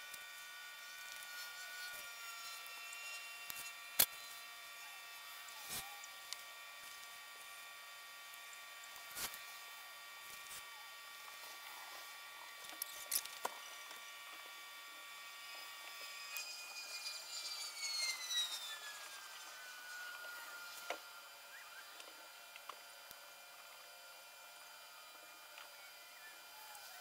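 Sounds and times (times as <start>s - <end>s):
dehumidifier motor whine: 0.0s - 27.0s.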